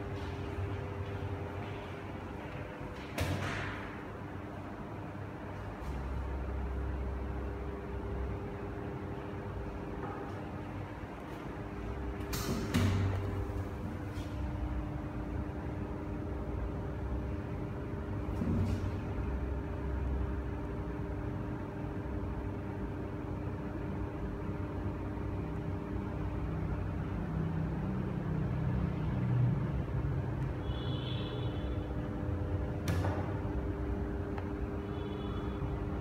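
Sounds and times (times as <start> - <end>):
droning hum: 0.0 - 36.0.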